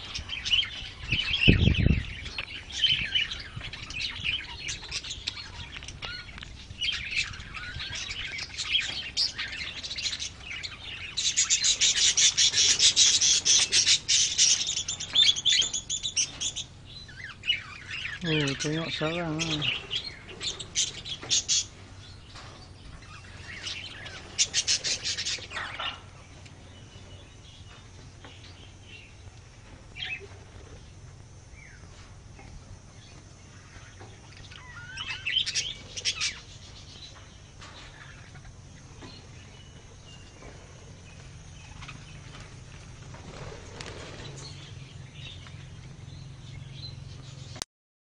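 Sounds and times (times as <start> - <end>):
birds chirping: 0.0 - 47.6.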